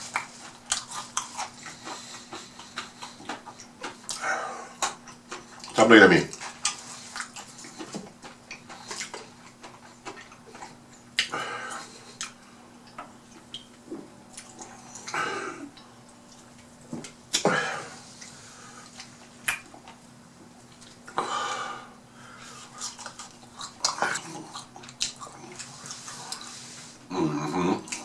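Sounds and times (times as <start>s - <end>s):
faint steady hum: 0.0s - 28.0s
person chewing food: 0.0s - 28.0s.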